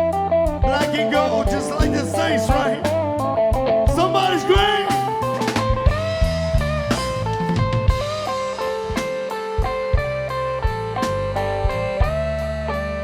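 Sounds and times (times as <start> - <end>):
drum kit: 0.0 - 12.9
bass: 0.0 - 13.0
lead guitar melody: 0.0 - 13.0.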